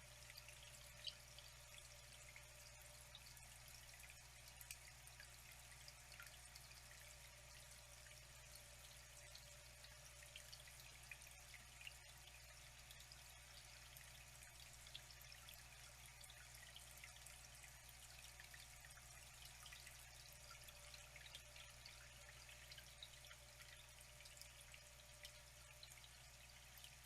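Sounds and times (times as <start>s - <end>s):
water drips and splashes: 0.0s - 27.0s
water trickling: 0.0s - 27.0s.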